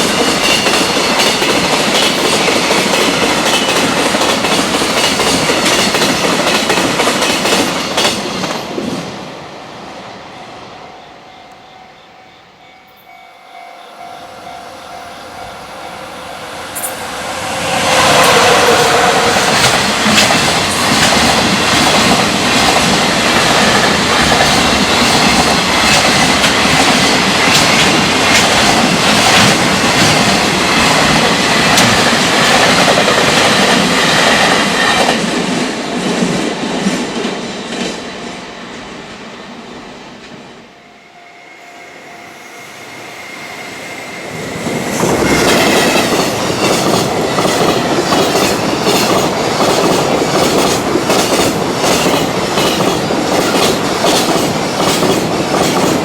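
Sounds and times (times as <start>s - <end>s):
train passing: 0.0s - 56.0s.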